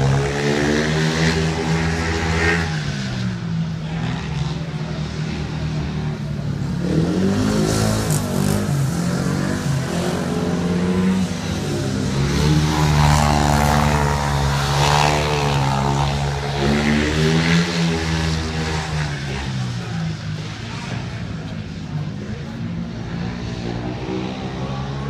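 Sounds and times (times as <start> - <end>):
motorcycle engine racing: 0.0 - 25.0.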